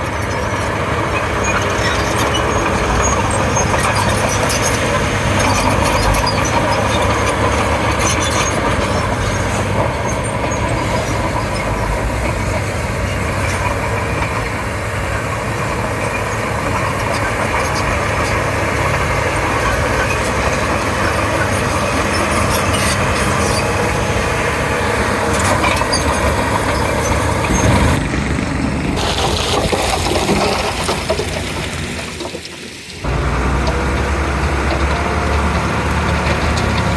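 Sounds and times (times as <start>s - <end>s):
bulldozer diesel engine under load: 0.0s - 36.9s.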